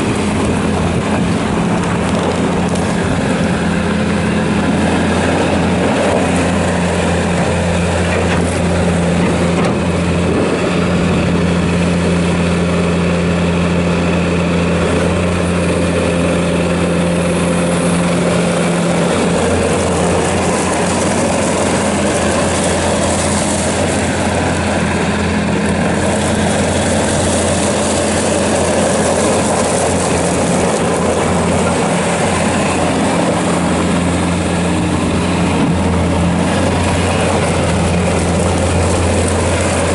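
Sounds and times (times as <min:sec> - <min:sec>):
loader diesel engine running: 0:00.0 - 0:39.9.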